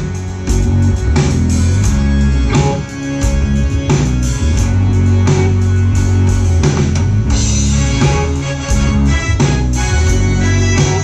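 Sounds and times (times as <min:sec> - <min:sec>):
bass line: 0:00.0 - 0:11.0
electric and acoustic guitars: 0:00.0 - 0:11.0.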